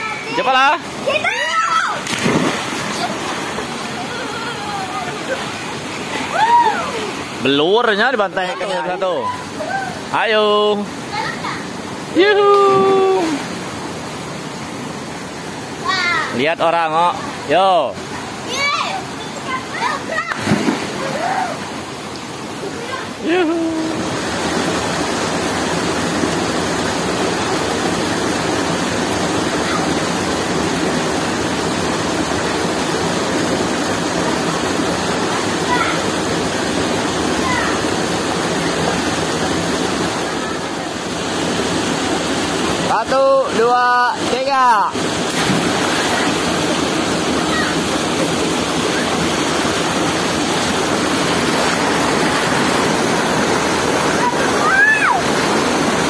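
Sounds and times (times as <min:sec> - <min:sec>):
loud rush of flowing water: 0:00.0 - 0:56.0.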